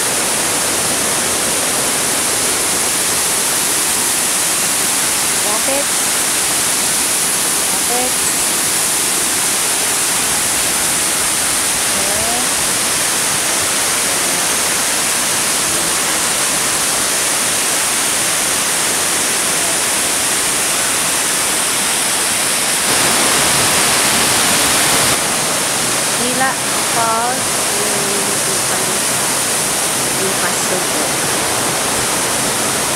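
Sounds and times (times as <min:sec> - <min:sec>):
waterfall pouring over rocks: 0:00.0 - 0:32.9.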